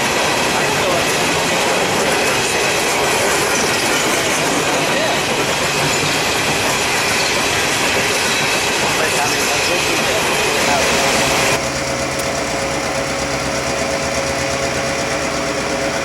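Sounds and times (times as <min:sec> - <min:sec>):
railroad cars rolling on track: 0:00.0 - 0:16.0.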